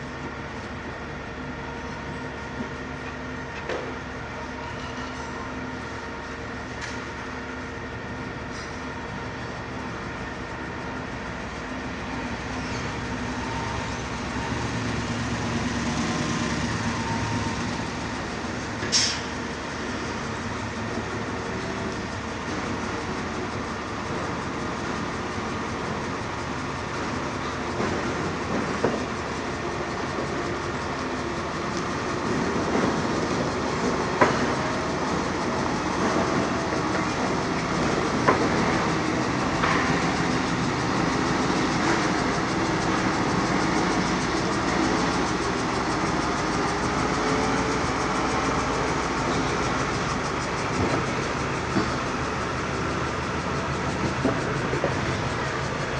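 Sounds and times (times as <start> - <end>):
machine engine running: 3.6 - 55.9.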